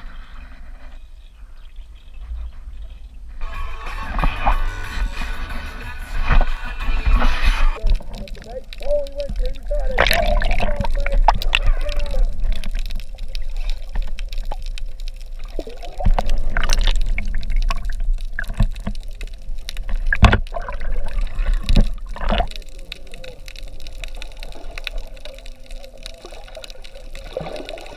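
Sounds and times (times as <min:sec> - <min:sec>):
muffled underwater water rushing: 0:00.0 - 0:27.9.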